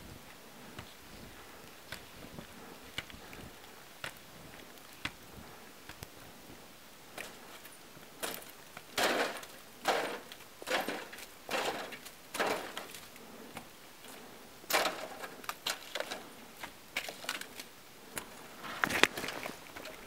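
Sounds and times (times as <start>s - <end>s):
skis crunching through snow: 0.0s - 20.0s
ski gear clicks and knocks: 1.7s - 6.3s, 7.1s - 20.0s.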